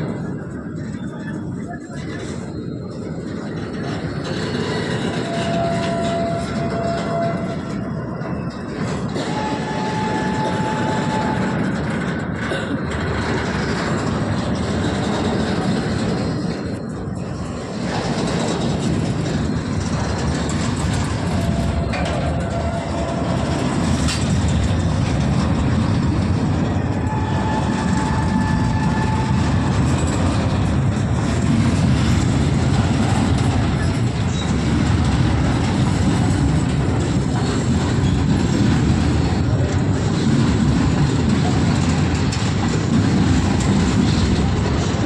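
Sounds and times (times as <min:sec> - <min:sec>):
clickety-clack over rail joints: 0:00.0 - 0:45.0
train wheels rumbling on rails: 0:00.0 - 0:45.0.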